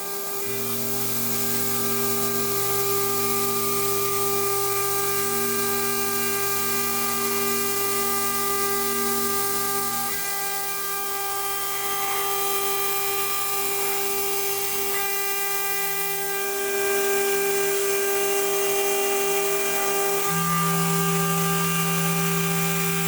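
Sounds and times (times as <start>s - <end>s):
milling machine whine: 0.0s - 23.0s.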